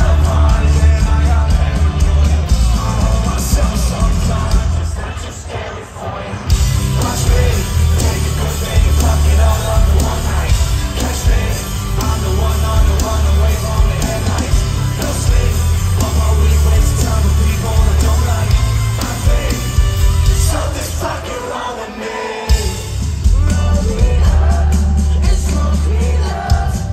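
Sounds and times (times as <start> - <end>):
lead singer: 0.0 - 26.9
live rock band: 0.0 - 26.9.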